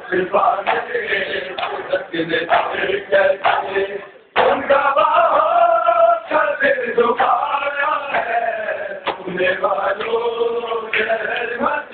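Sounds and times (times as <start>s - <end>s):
men chanting a lament: 0.0s - 11.9s.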